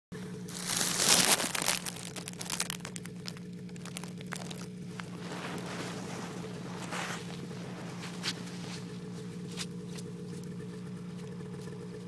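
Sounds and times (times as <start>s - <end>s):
low engine hum: 0.1s - 12.0s.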